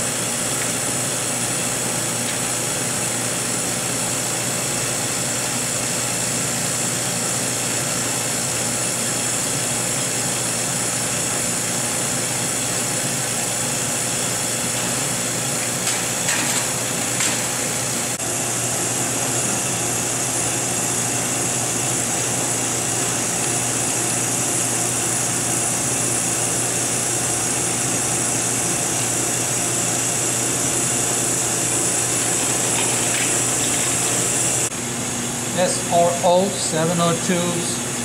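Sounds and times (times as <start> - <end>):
vacuum pump humming and hissing: 0.0 - 38.0.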